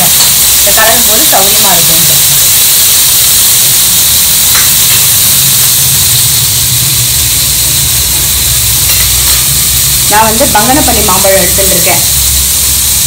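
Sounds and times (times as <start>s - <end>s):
okra sizzling in oil: 0.0s - 13.0s.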